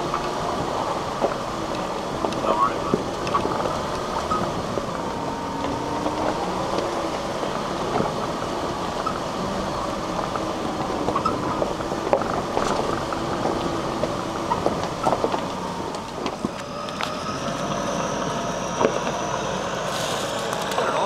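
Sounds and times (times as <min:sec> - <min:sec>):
vehicle engine running at low speed: 0:00.0 - 0:21.0.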